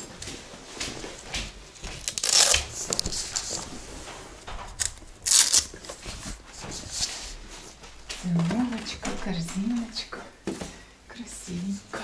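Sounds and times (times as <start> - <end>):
rustling and scuffing of handling: 0.0 - 10.8.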